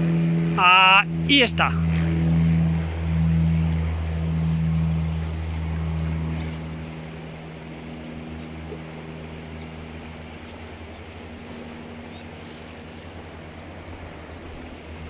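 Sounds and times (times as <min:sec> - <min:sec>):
distant engine droning: 0:00.0 - 0:15.0.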